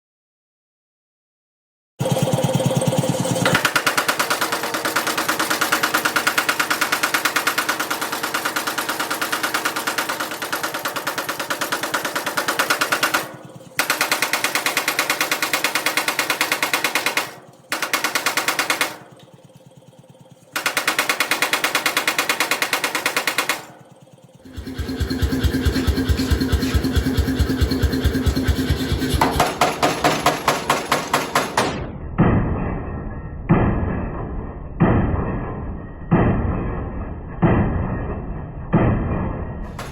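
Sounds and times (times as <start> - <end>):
forging hammer pounding steel: 2.0 - 39.9.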